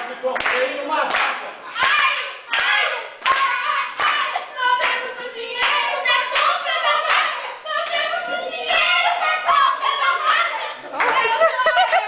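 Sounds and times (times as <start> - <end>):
rhythmic hand claps: 0.0 - 12.0
group singing folk song: 1.7 - 12.0.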